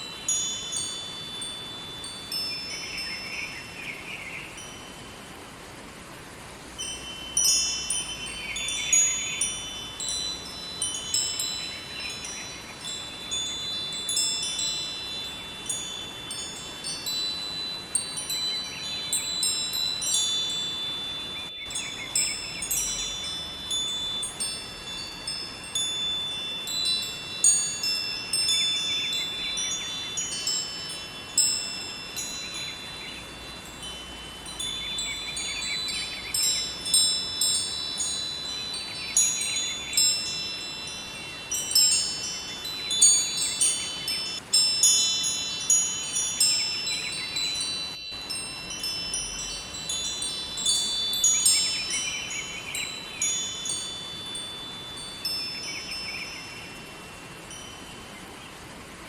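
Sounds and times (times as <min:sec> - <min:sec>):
river water rushing: 0:00.0 - 0:59.0
wind chimes ringing: 0:00.0 - 0:59.0.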